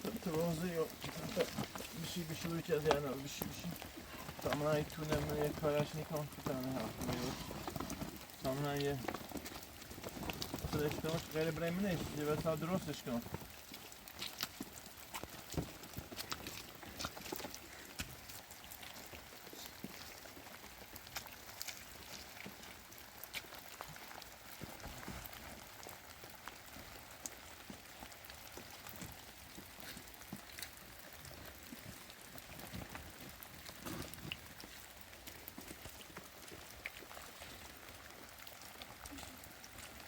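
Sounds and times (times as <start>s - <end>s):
raindrops tapping close by: 0.0s - 40.0s
steady rain: 0.0s - 40.0s.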